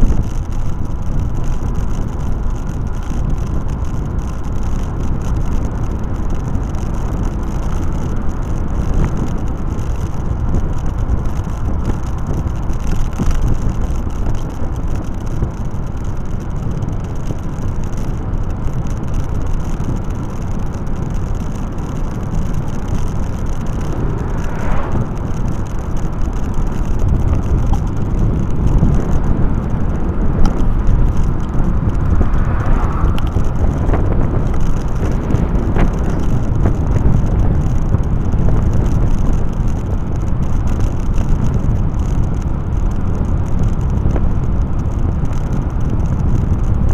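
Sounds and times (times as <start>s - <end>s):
road and motor noise: 0.0s - 46.9s
wind rush on microphone: 0.0s - 46.9s.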